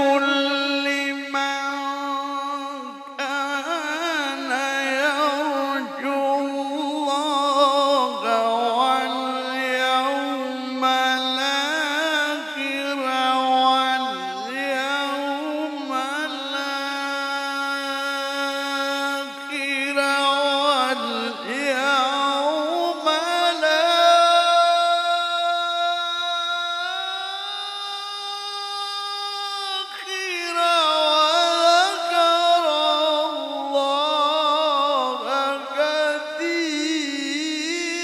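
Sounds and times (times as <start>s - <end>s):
man reciting melismatically: 0.0s - 38.0s.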